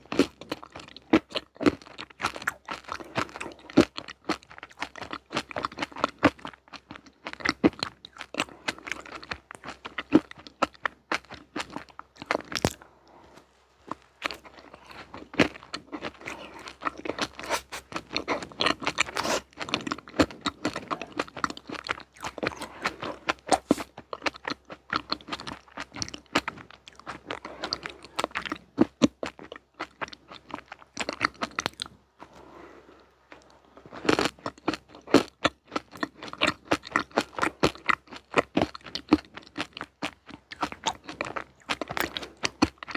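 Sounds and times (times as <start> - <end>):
crunching and chewing sweets: 0.0 - 42.9.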